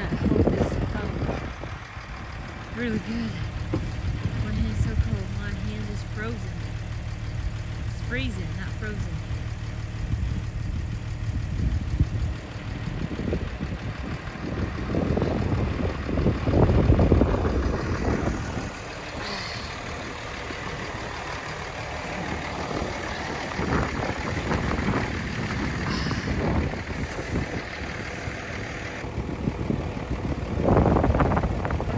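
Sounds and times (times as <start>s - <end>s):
engine running: 0.0s - 31.9s.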